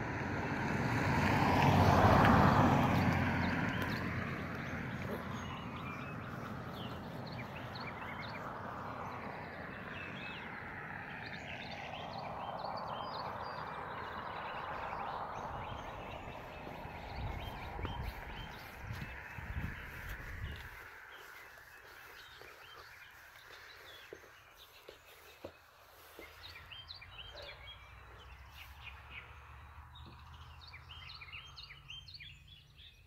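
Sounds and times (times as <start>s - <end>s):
vehicle passing: 0.0s - 32.6s
birds chirping: 1.3s - 33.0s.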